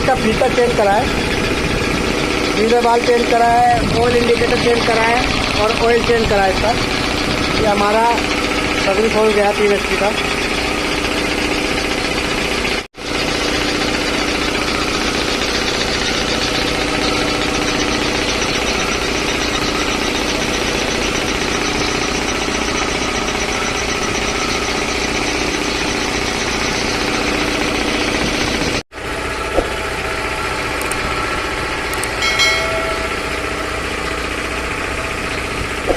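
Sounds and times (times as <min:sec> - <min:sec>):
air compressor running: 0:00.0 - 0:35.9.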